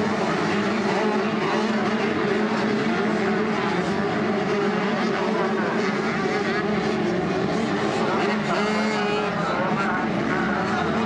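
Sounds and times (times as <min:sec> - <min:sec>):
motocross bike engines at high revs: 0:00.0 - 0:11.0.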